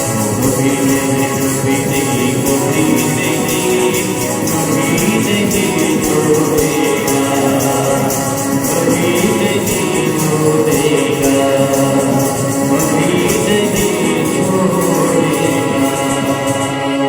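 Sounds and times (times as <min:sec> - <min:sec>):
devotional worship music: 0:00.0 - 0:17.0
tambourine-like jingle beat: 0:00.0 - 0:17.0.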